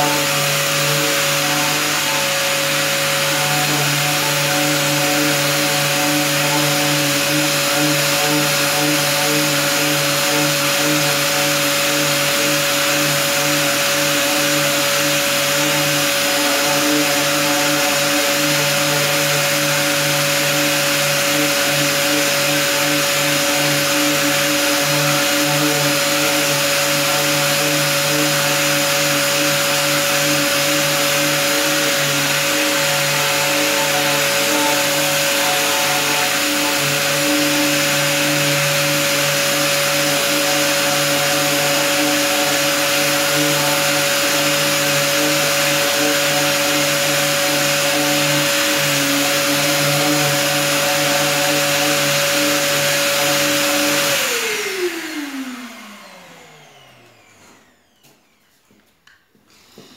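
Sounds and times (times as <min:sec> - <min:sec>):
power sander sanding plastic: 0:00.0 - 0:58.9.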